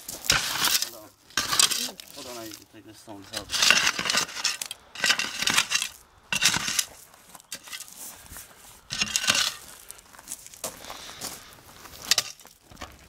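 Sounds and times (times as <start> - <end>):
spade scraping gravel: 0.0 - 13.0.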